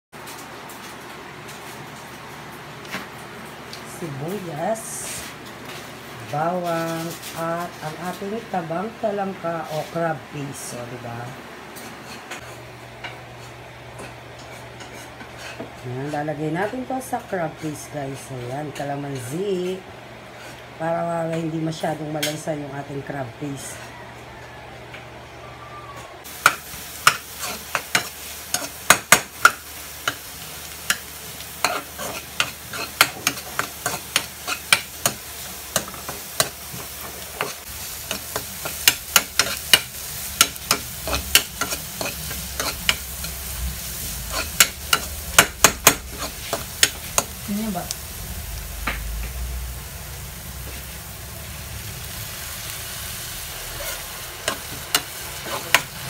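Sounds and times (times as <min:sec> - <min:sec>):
onion and garlic sizzling: 0:00.2 - 0:23.8, 0:26.2 - 0:56.0.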